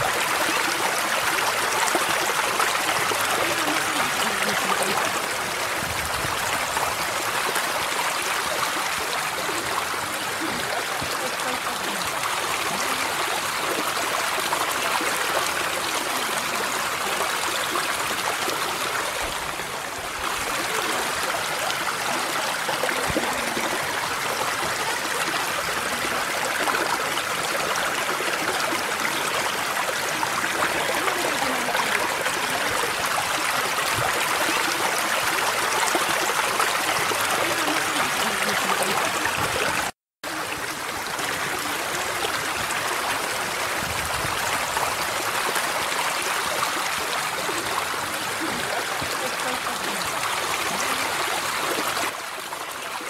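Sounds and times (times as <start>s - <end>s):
stream running over rocks: 0.0s - 53.0s.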